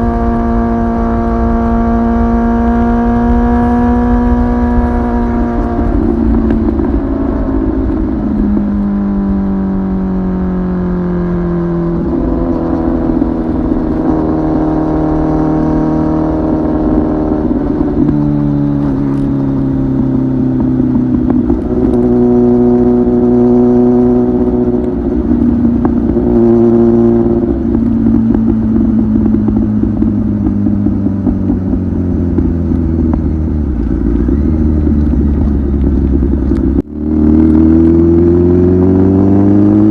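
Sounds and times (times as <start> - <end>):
motorcycle engine with gear changes: 0.0 - 39.9.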